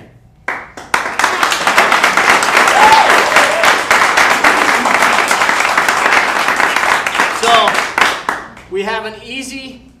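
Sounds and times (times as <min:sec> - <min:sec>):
audience applauding: 0:00.5 - 0:08.7.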